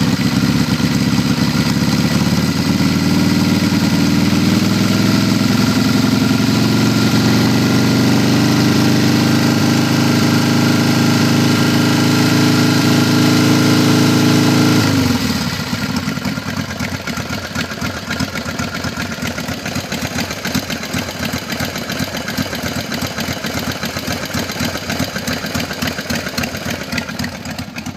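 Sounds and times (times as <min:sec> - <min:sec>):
motorcycle engine revving and idling: 0:00.0 - 0:27.9.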